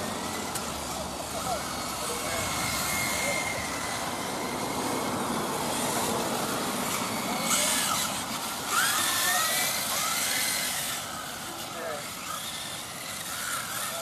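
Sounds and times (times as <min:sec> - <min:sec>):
rc car motors whining: 0:00.0 - 0:14.0.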